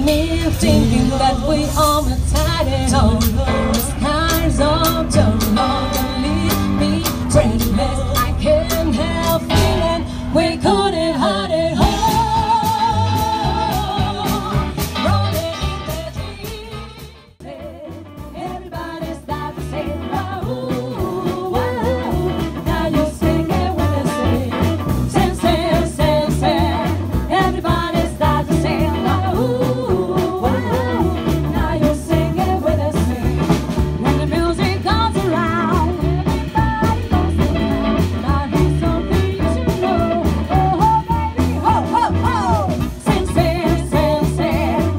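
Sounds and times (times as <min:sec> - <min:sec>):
double bass: 0:00.0 - 0:44.9
drums: 0:00.0 - 0:44.9
female vocal trio singing: 0:00.0 - 0:44.9
guitar: 0:00.0 - 0:44.9.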